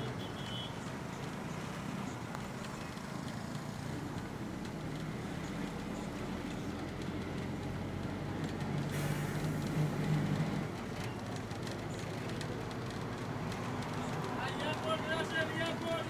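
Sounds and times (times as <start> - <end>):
engine rumble: 0.0 - 16.0
road and tyre noise: 0.0 - 16.0.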